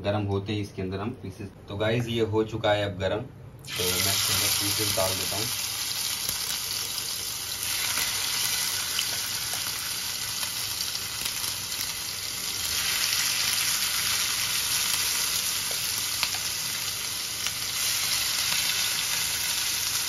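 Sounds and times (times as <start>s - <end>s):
chicken sizzling in a pan: 3.7s - 20.0s.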